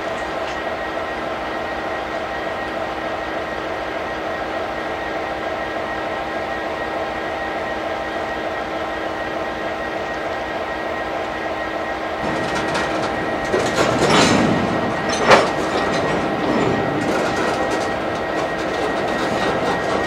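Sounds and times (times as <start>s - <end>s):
diesel locomotive droning: 0.0s - 20.0s.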